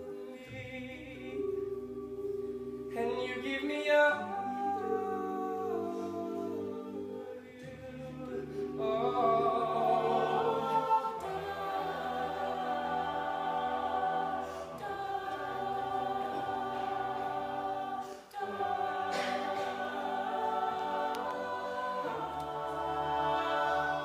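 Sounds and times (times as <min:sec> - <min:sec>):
male choir singing wordless chords: 0:00.0 - 0:24.0.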